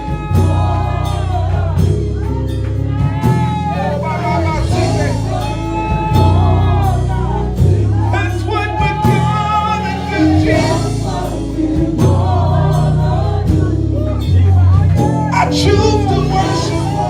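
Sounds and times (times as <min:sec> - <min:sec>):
band with strong bass: 0:00.0 - 0:17.0
percussion hits: 0:00.0 - 0:17.0
voices singing: 0:00.0 - 0:17.0.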